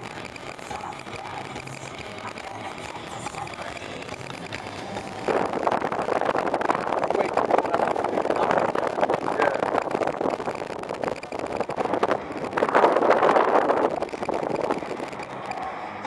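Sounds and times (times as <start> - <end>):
road and wind noise in car: 0.0 - 16.0.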